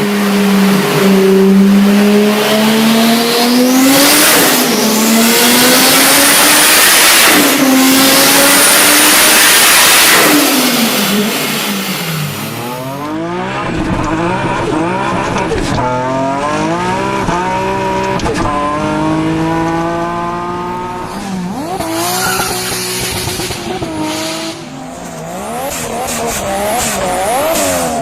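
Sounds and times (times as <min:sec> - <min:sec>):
turbocharged car engine accelerating: 0:00.0 - 0:28.0.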